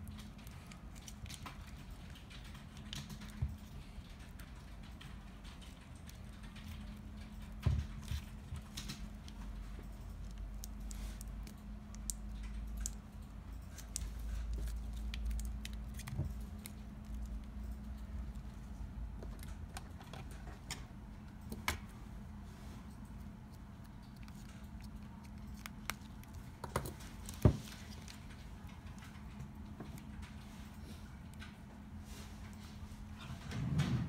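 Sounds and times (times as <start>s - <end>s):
rubber tape crackling and rustling: 0.0s - 20.8s, 22.4s - 33.3s
faint steady hum: 0.0s - 34.0s.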